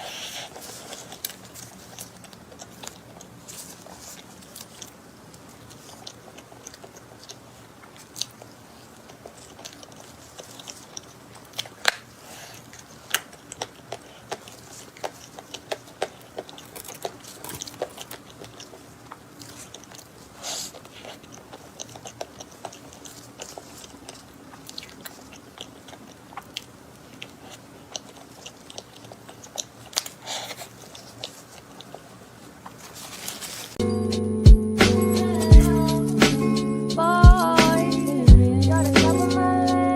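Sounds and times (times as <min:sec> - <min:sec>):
person chewing wetly: 0:00.0 - 0:33.2.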